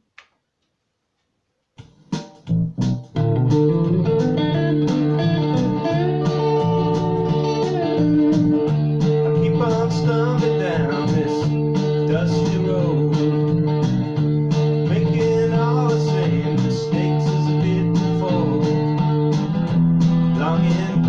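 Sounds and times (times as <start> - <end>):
guitar-led rock song: 2.1 - 21.0.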